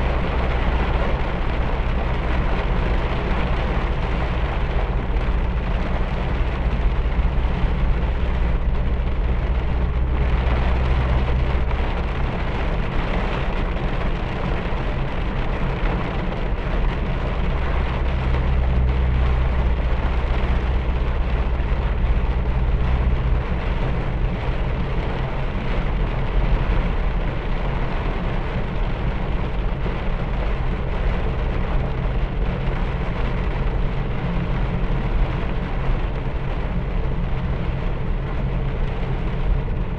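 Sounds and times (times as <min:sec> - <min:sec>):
deep low rumble: 0:00.0 - 0:39.9
heavy rain pouring: 0:00.0 - 0:39.9.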